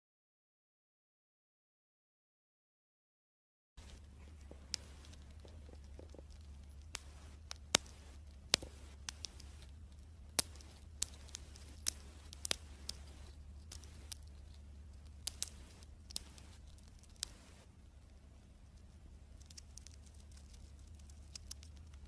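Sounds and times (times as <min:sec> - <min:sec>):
chipmunk crunching food: 0:03.8 - 0:22.0
faint low hum: 0:03.8 - 0:22.0.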